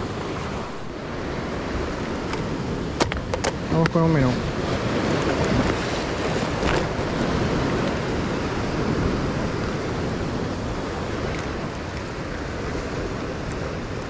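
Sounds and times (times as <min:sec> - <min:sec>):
surf washing over rocks: 0:00.0 - 0:14.0.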